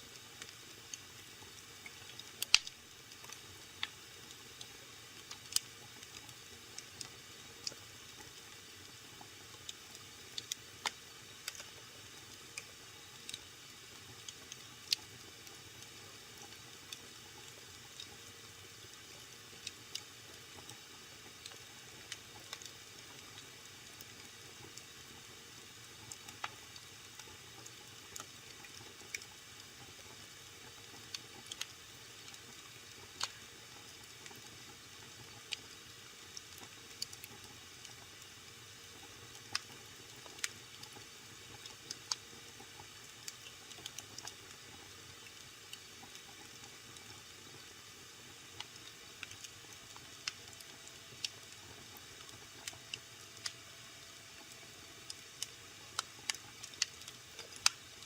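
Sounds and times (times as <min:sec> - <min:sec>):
wood fire crackling: 0:00.1 - 0:38.2, 0:38.9 - 0:53.6, 0:54.2 - 0:58.0.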